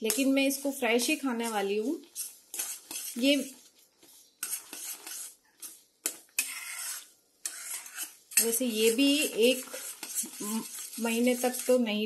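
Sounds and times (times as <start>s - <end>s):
wooden spatula scraping metal pan: 0.0s - 3.6s, 4.2s - 11.9s.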